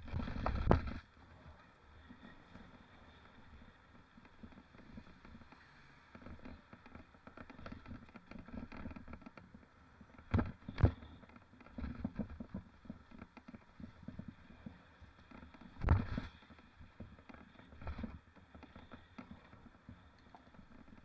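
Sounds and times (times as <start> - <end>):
mountain bike rattling and knocking: 0.0 - 1.1, 2.1 - 21.0.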